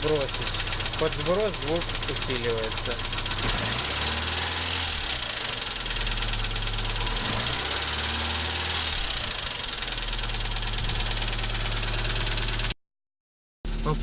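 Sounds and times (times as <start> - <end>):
engine with metallic knock: 0.0 - 12.8.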